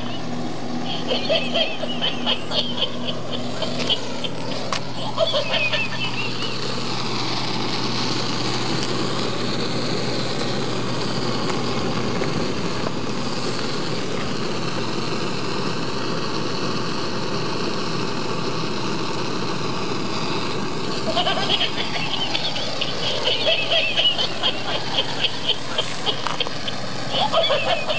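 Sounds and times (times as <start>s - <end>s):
blowtorch hissing: 0.0s - 27.9s.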